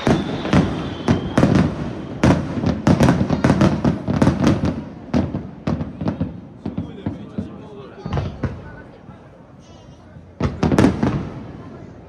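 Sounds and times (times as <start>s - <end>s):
fireworks bursting: 0.0s - 8.8s, 10.2s - 12.0s.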